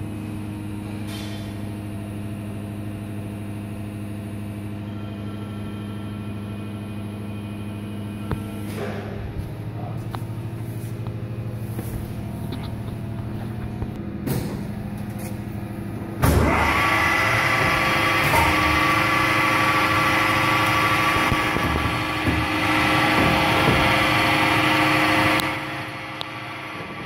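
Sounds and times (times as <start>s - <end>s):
low electric hum: 0.0s - 27.0s.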